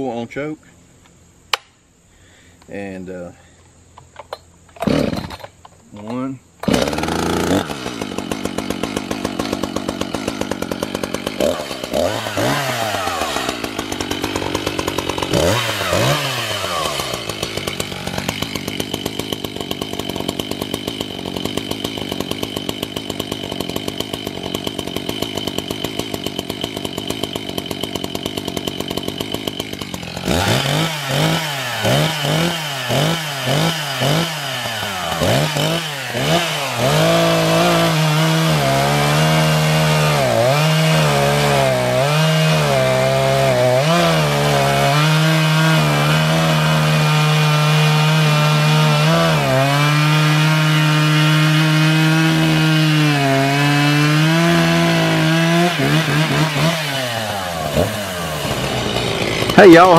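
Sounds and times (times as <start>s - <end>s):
chainsaw cutting log: 4.1s - 59.9s
chainsaw idling and revving: 4.7s - 5.6s, 6.6s - 59.9s.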